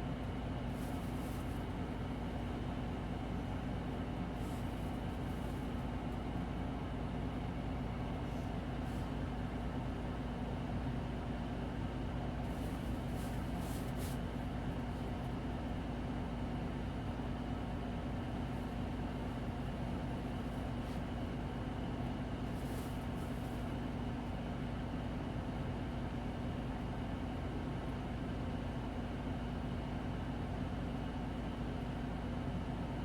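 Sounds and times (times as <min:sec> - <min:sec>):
bus engine and drivetrain hum: 0:00.0 - 0:33.0.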